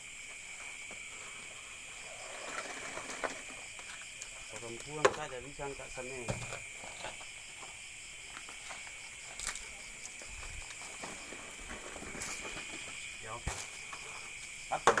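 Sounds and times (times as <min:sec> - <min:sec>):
crickets and night insects chirring: 0:00.0 - 0:15.0.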